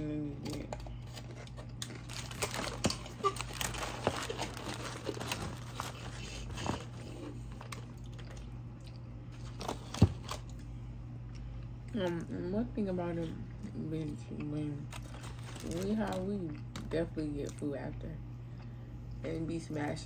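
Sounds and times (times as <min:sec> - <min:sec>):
crunching and chewing food: 0:00.0 - 0:12.3, 0:13.1 - 0:19.2
steady low hum: 0:00.0 - 0:20.0.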